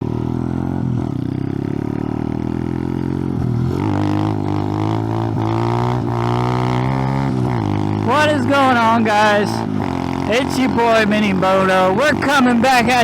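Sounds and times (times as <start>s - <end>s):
mini-bike engine running: 0.0s - 13.0s.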